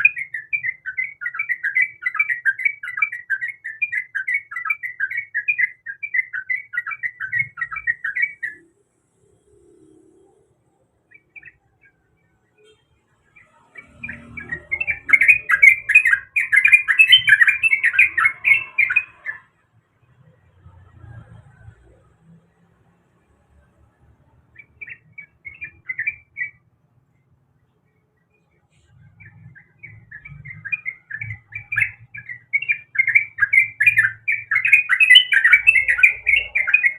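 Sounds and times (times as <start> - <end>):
bulbul chirping song: 0.0 - 22.2, 23.5 - 36.9.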